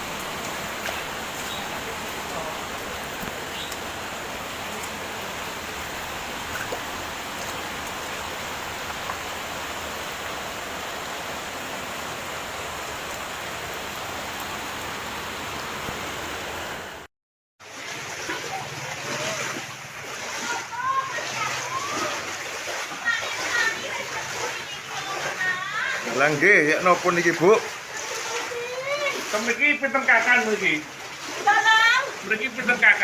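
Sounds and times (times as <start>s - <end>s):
heavy rain: 0.0s - 17.1s, 18.0s - 33.0s
floodwater flowing: 0.0s - 33.0s.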